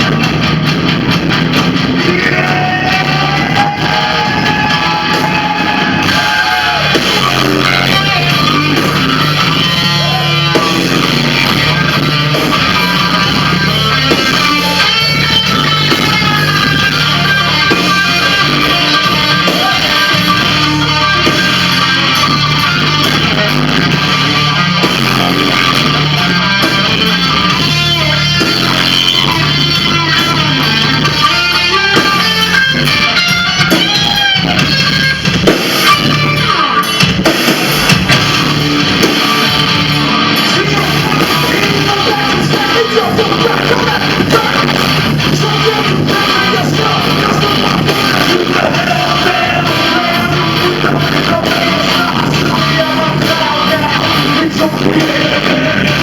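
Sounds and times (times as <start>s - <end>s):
bass line: 0.0s - 56.0s
electric guitar: 0.0s - 56.0s
live rock band playing: 0.0s - 56.0s.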